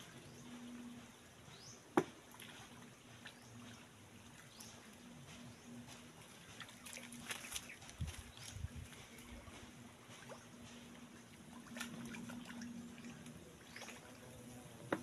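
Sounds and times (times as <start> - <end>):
shallow water trickling: 2.2 - 14.9.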